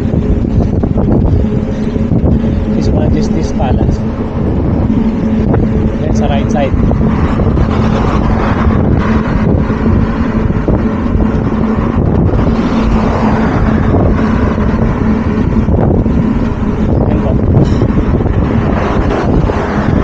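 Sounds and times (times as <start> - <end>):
constant low hum: 0.0 - 20.0
wind buffeting microphone: 0.0 - 20.0.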